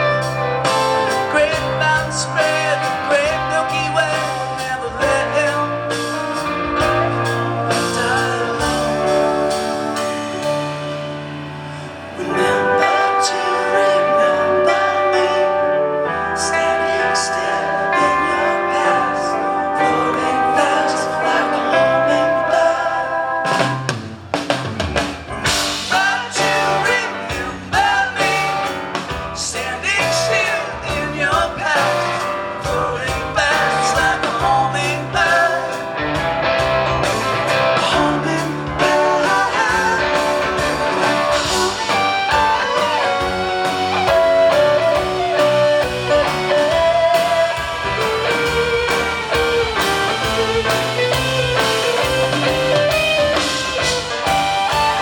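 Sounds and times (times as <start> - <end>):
drums: 0.0 - 22.6, 23.3 - 55.0
bass guitar: 0.0 - 55.0
electric guitar bending: 0.0 - 55.0.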